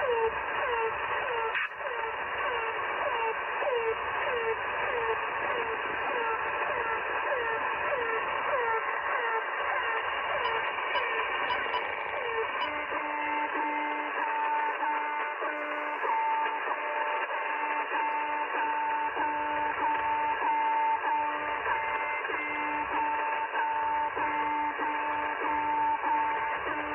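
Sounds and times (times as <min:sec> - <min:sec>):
radio static hiss: 0:00.2 - 0:26.9.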